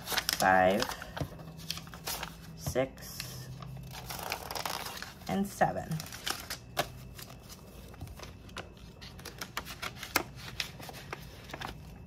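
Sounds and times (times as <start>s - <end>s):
banknotes rustling and snapping: 0.0s - 2.5s, 3.1s - 5.2s, 5.9s - 12.0s.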